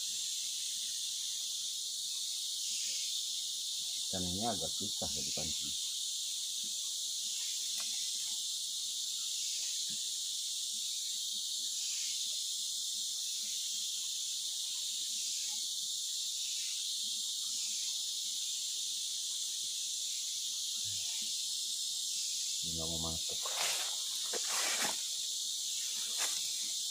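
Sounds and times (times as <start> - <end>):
high-pitched insect chorus: 0.0 - 26.9.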